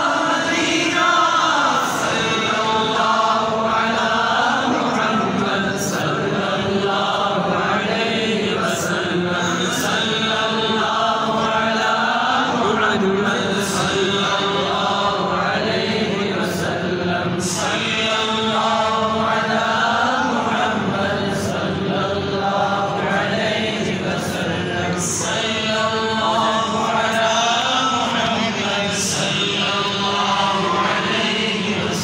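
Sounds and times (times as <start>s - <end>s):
men chanting together: 0.0s - 32.0s.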